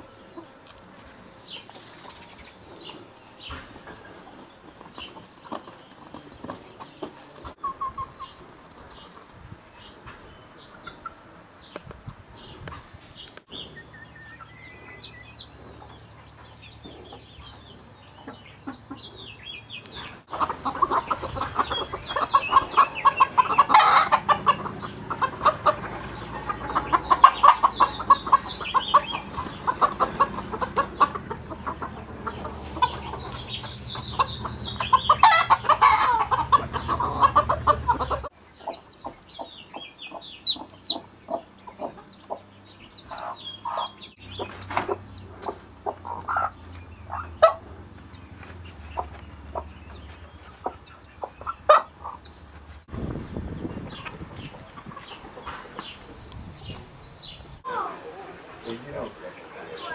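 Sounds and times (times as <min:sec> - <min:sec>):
chickens clucking and squawking: 0:00.0 - 0:59.9.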